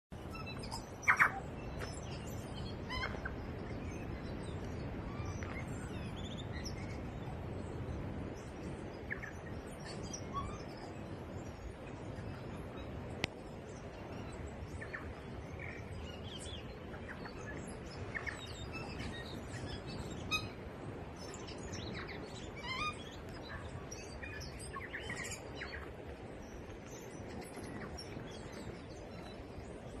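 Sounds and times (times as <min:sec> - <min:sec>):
small birds chirping: 0:00.1 - 0:30.0.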